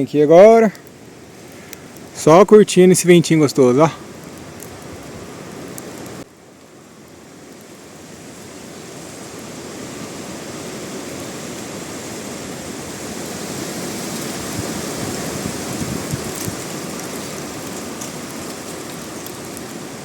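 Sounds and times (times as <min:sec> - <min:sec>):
wind blowing: 0:00.0 - 0:20.0.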